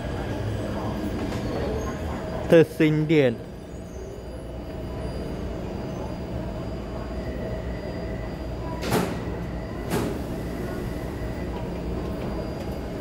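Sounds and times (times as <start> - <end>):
train humming at platform: 0.0 - 13.0.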